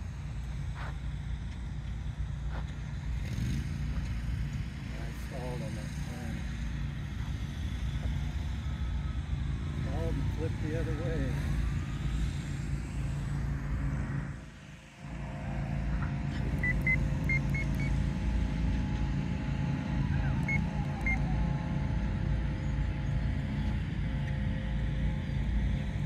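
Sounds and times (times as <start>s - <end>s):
distant model airplane motor whine: 0.0s - 26.0s.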